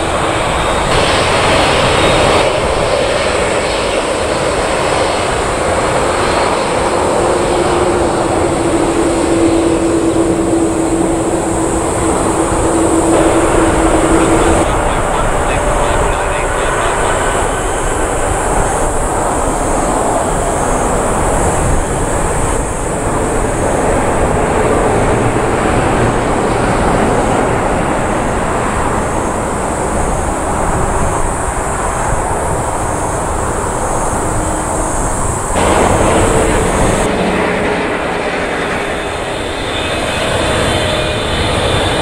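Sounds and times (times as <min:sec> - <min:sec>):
jet engines at takeoff: 0:00.0 - 0:42.0
jet engines on approach: 0:00.0 - 0:42.0.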